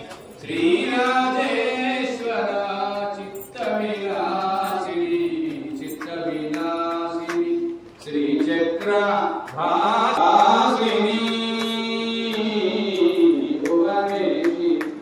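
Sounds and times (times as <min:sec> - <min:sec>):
person chanting mantras: 0:00.0 - 0:15.0.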